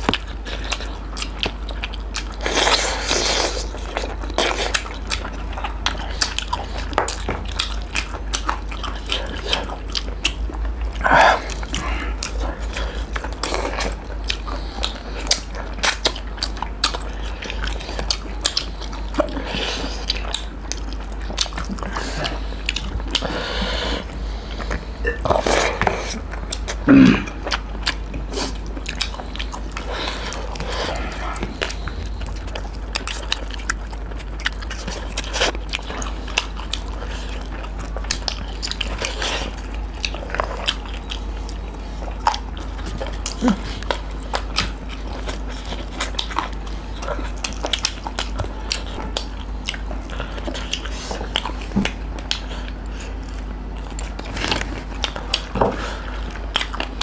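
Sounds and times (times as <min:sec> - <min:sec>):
chewing and biting: 0:00.0 - 0:57.0
low hum: 0:00.0 - 0:57.0.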